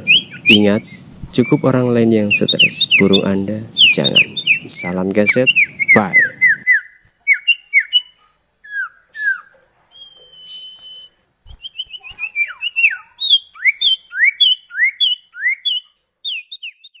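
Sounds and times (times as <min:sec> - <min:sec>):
bird whistling notes: 0:00.0 - 0:16.5.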